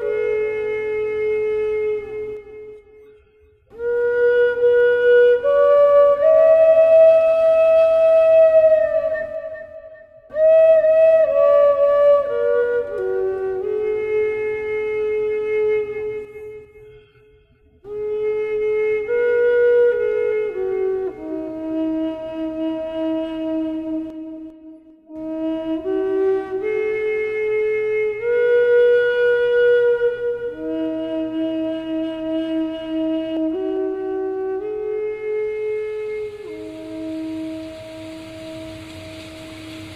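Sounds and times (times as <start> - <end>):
flute melody: 0.0 - 39.9.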